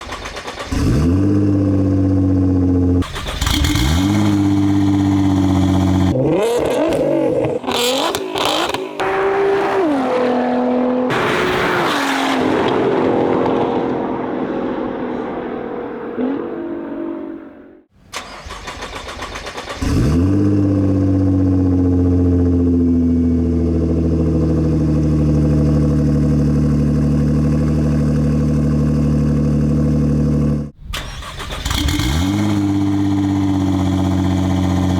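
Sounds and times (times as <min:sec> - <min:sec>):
car engine starting and revving: 0:00.0 - 0:34.9.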